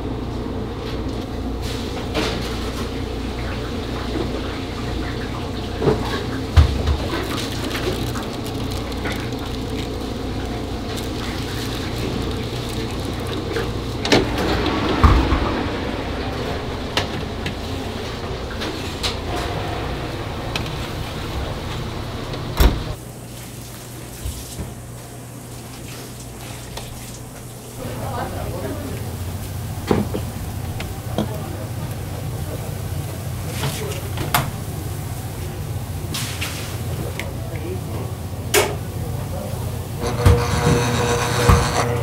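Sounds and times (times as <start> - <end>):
kitchen equipment humming: 0.0 - 42.0.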